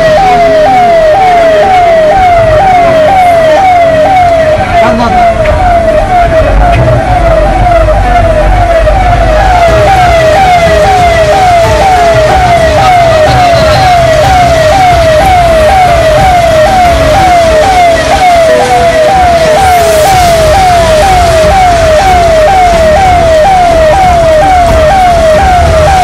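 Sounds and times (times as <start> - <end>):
electronic siren wailing: 0.0 - 26.0
low rumble: 1.0 - 26.0.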